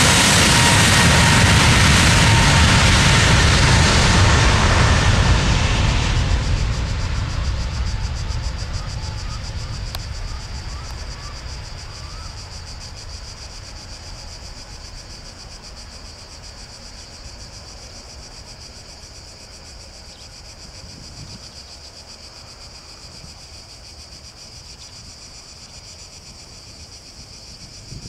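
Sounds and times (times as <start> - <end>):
jet airliner engines rumbling: 0.0 - 28.0
insects chirring: 0.2 - 28.0.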